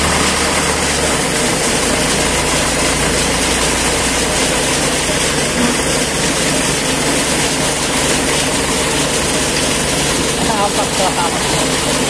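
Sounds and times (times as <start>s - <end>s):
diesel engine running loudly: 0.0s - 12.0s.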